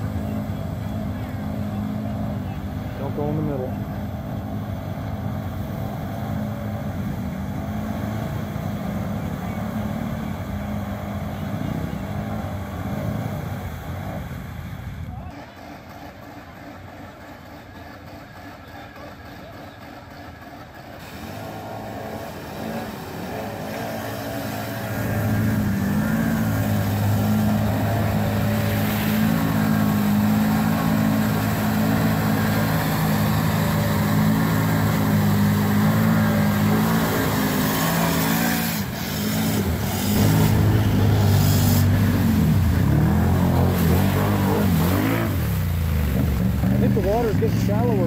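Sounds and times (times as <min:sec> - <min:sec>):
quad engine revving high: 0:00.0 - 0:48.0.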